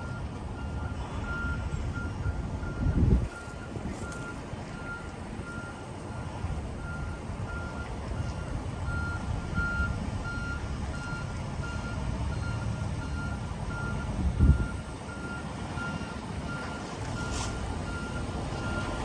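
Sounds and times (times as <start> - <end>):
truck backup alarm beeping: 0.0 - 19.0
truck engine rumbling: 0.0 - 19.0.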